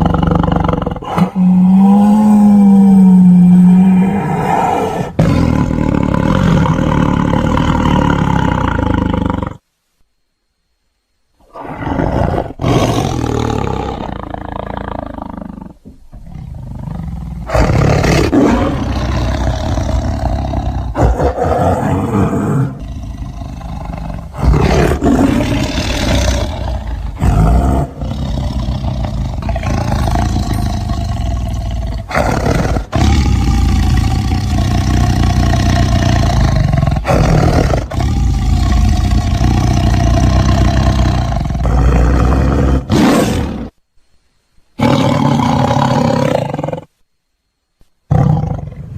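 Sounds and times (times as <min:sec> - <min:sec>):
tiger roaring and growling: 0:00.0 - 0:09.6, 0:11.4 - 0:43.8, 0:44.8 - 0:46.9, 0:48.1 - 0:48.9.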